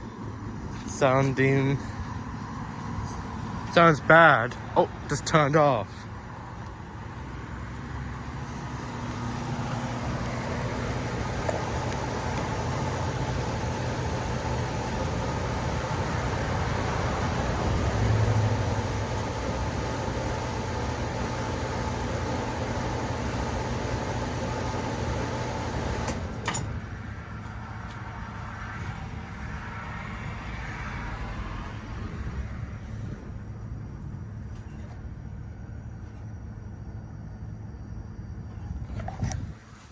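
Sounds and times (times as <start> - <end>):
compressor hum: 0.0 - 39.9
condenser fans rushing: 0.0 - 39.9.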